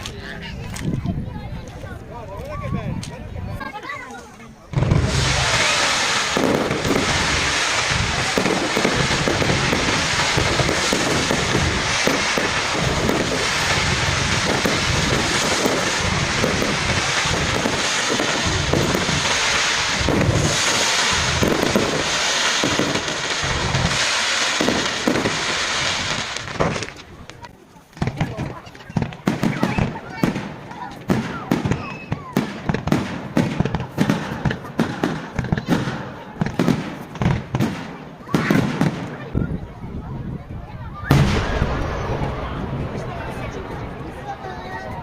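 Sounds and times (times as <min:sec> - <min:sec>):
fireworks crackling hiss: 0:01.6 - 0:39.8, 0:40.9 - 0:45.0
fireworks bangs and thumps: 0:04.6 - 0:45.0.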